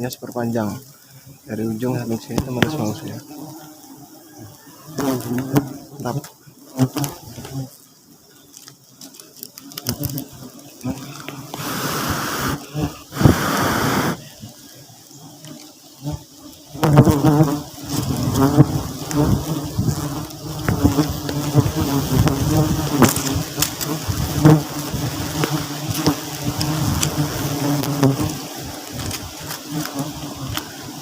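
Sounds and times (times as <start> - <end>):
bees buzzing loudly: 0.0 - 31.0.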